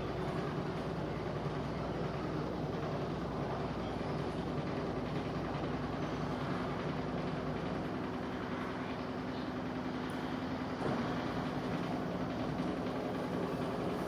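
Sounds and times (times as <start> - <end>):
washing machine rumble: 0.0 - 14.0.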